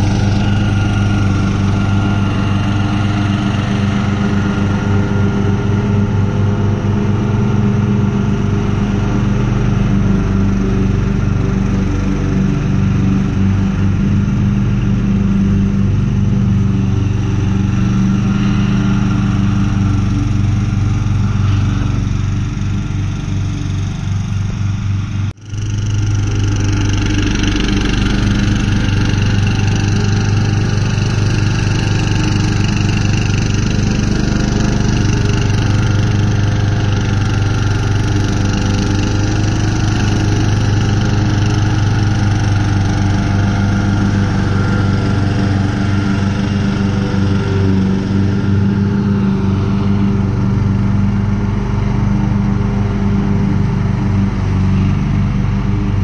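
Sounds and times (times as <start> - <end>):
ride-on mower engine droning: 0.0 - 56.0.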